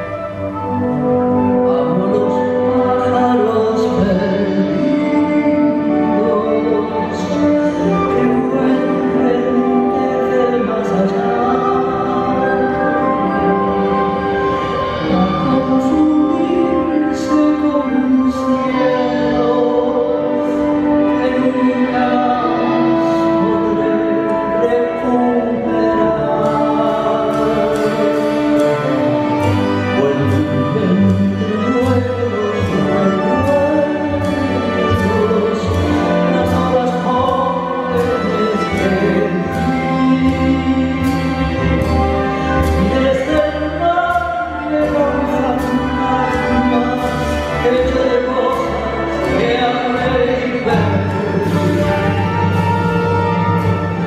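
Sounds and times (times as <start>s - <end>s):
orchestra with violins: 0.0s - 54.0s
woman singing tango: 0.0s - 54.0s.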